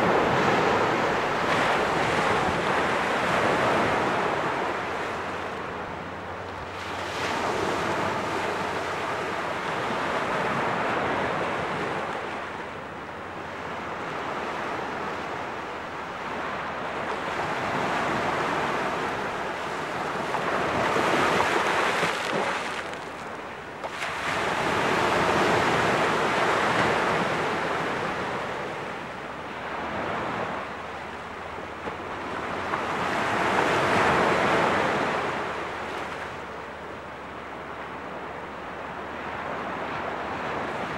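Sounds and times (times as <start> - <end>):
small waves breaking on shore: 0.0 - 40.9.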